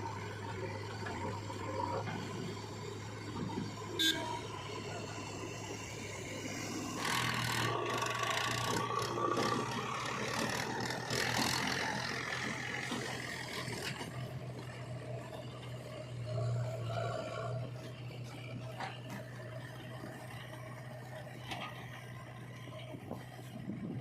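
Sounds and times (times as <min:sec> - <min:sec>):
diesel machinery engine hum: 0:00.0 - 0:24.0.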